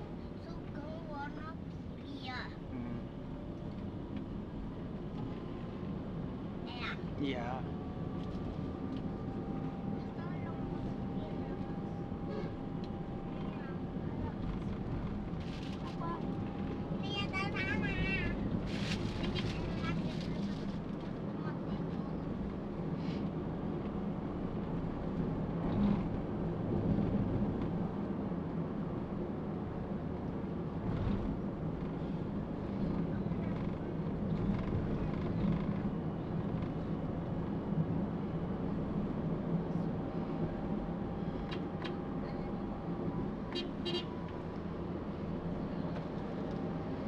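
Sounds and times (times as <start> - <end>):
car engine and road noise: 0.0 - 47.0.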